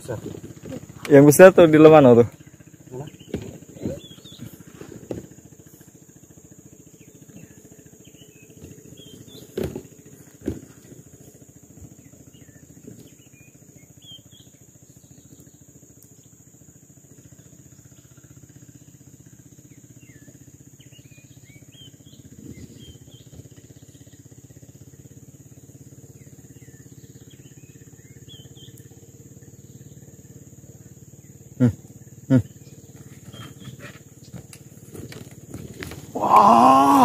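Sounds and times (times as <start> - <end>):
faint bird chirps: 0.0 - 10.3, 10.9 - 35.4.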